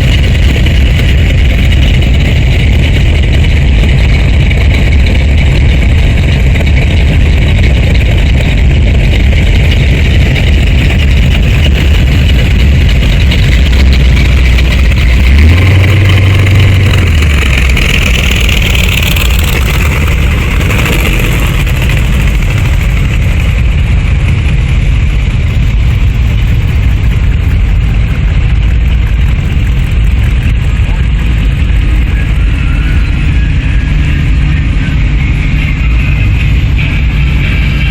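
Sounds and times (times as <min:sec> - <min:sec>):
car engines running slowly: 0:00.0 - 0:37.9
engine revving: 0:00.0 - 0:37.9.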